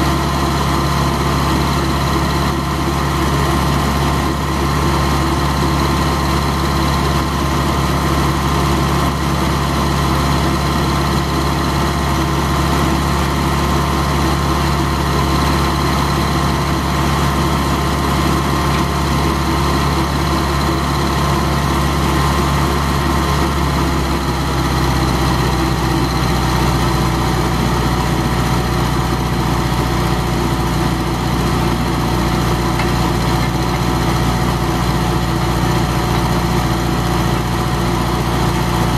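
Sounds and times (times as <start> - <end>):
stump grinder engine running: 0.0 - 38.9.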